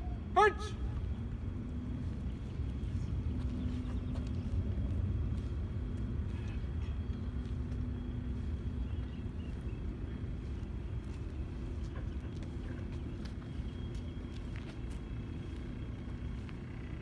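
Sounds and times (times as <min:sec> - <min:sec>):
low outdoor rumble: 0:00.0 - 0:17.0
footsteps marching on concrete: 0:00.9 - 0:17.0.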